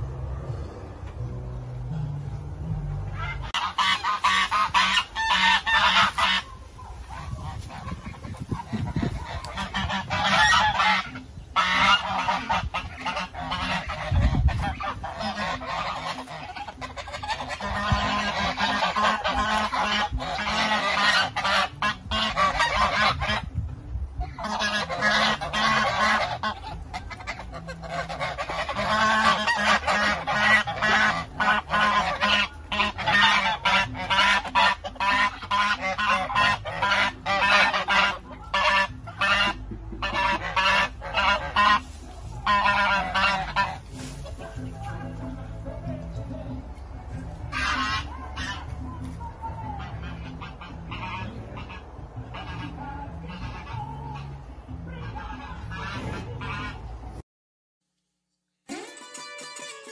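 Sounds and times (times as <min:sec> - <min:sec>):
geese honking: 0:00.0 - 0:23.6, 0:24.2 - 0:57.2.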